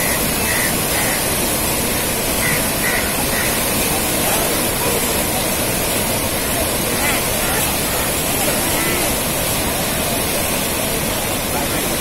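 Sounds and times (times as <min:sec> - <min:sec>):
water rushing through dam spillway: 0:00.0 - 0:12.0.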